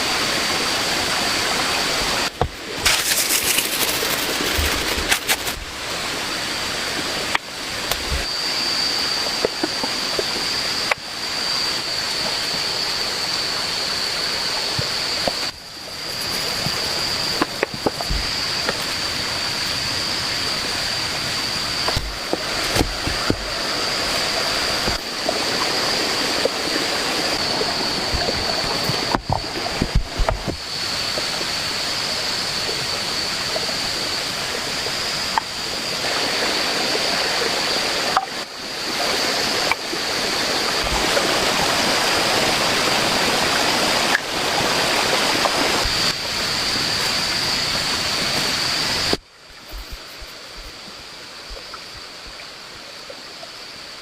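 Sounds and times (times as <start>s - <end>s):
high-pitched insect drone: 0.0s - 54.0s
stream rushing: 0.0s - 54.0s.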